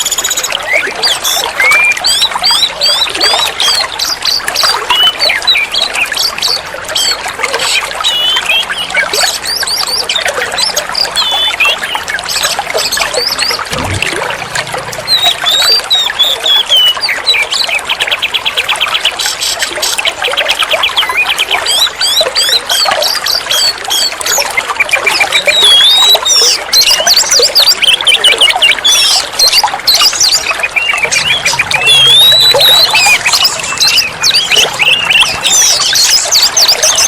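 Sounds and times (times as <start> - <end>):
bird singing whistles and trills: 0.0 - 37.0
trickle of running water: 0.0 - 37.0.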